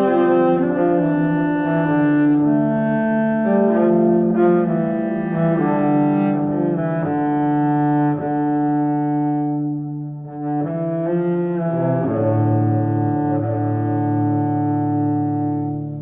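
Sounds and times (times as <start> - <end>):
slow string-like instrumental music: 0.0 - 16.0.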